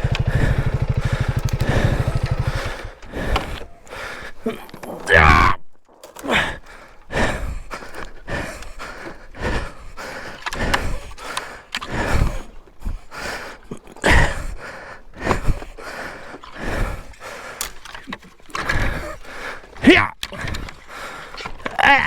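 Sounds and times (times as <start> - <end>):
person breathing hard and grunting: 0.0 - 5.5, 6.2 - 17.7, 18.6 - 22.0.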